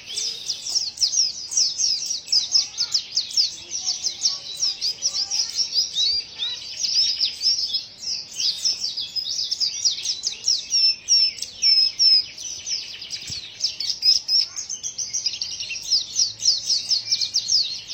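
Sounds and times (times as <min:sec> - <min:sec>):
bird twittering song: 0:00.0 - 0:17.9.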